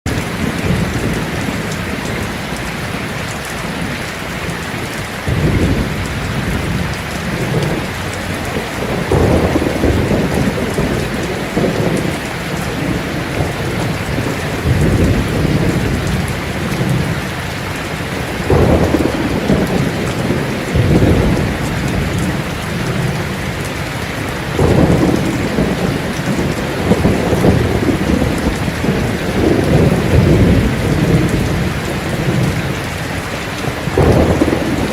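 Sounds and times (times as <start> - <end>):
heavy rain on a tin roof: 0.0 - 34.9
rolling thunder: 0.1 - 34.9.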